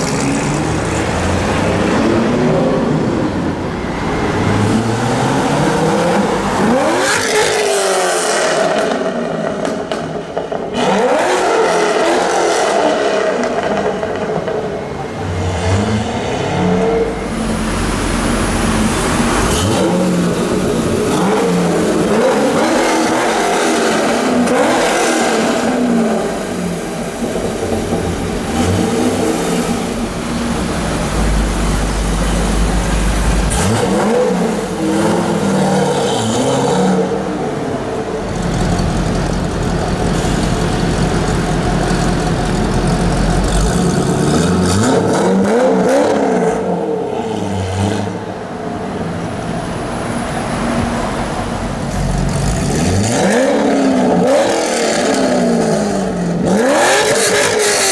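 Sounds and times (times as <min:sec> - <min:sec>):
car engine revving: 0:00.0 - 0:57.9.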